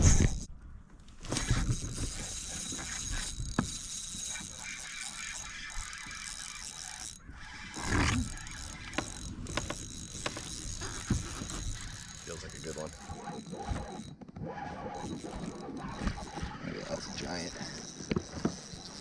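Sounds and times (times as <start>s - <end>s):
fishing reel clicking whir: 0.0s - 0.5s, 1.3s - 19.0s.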